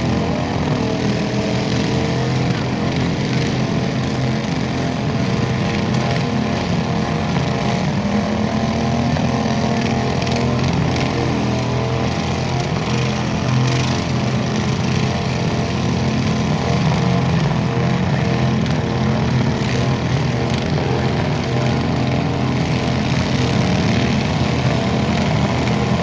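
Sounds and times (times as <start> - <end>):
garden tractor engine running: 0.0 - 26.0.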